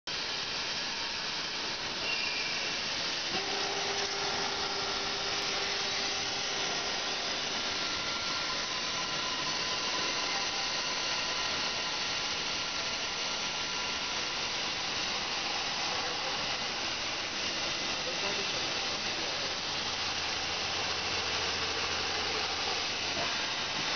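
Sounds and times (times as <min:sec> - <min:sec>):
sanding belt hissing on metal pot: 0:01.2 - 0:23.9
electric motor whining: 0:02.6 - 0:23.8.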